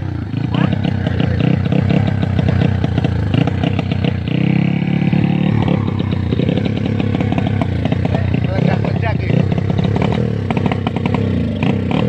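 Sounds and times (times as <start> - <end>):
diesel motorbike engine chugging: 0.0 - 12.0.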